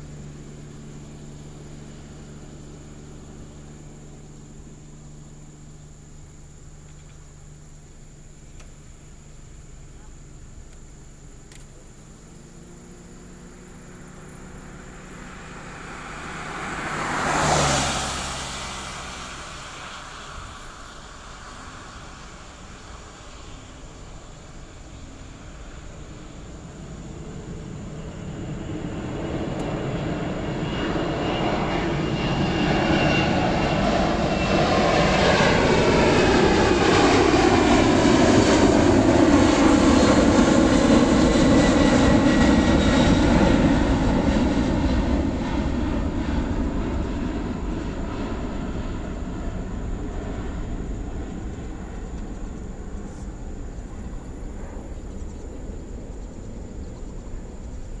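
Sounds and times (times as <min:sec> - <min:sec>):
jet airliner passing by: 0:00.0 - 0:58.0.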